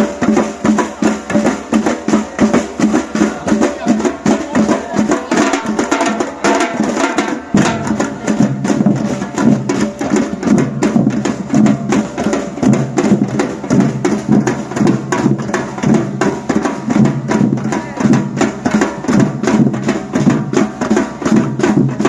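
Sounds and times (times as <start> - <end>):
percussion ensemble drumming: 0.0 - 22.0.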